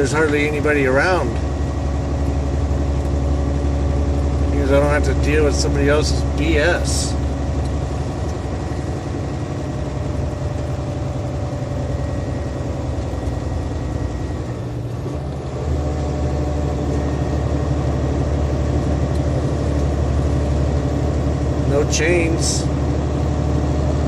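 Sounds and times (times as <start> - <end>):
diesel truck engine under load: 0.0 - 24.0
road noise: 0.0 - 24.0.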